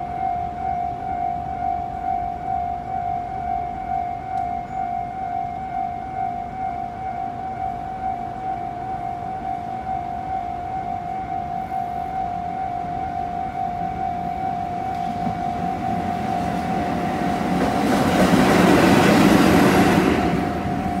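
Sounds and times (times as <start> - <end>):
level crossing warning bell: 0.0 - 21.0
train rumble and wheel noise: 0.0 - 21.0.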